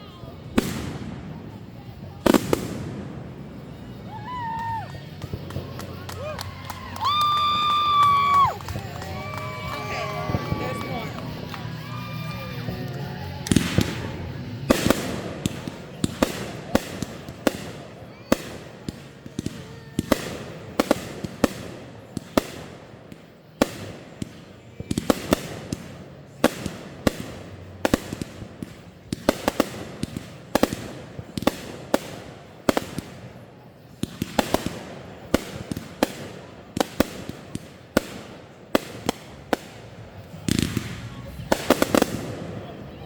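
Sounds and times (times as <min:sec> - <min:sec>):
fireworks banging: 0:00.0 - 0:43.0.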